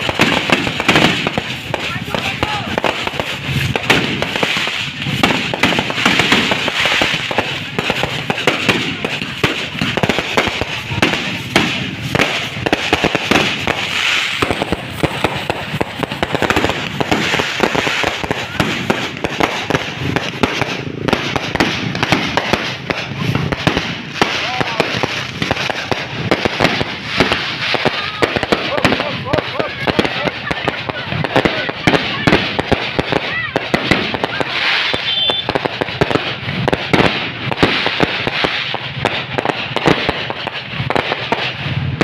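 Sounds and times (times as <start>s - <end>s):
fireworks popping and crackling: 0.0s - 42.0s.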